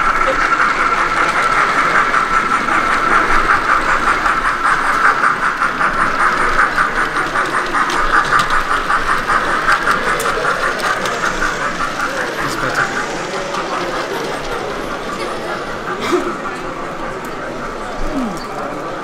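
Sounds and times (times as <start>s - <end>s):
model train pulsing whine: 0.0s - 19.0s.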